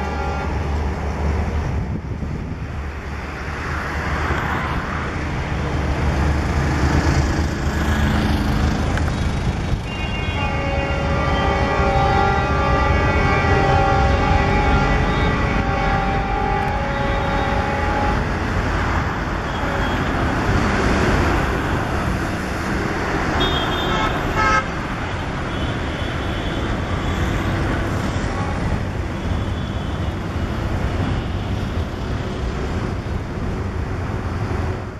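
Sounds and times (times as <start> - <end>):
train wheel-on-rail rumble: 0.0 - 34.9.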